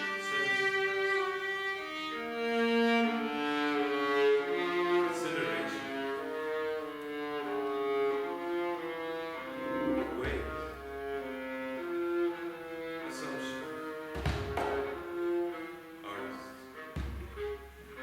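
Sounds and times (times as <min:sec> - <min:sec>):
bowed strings playing held notes: 0:00.0 - 0:18.0.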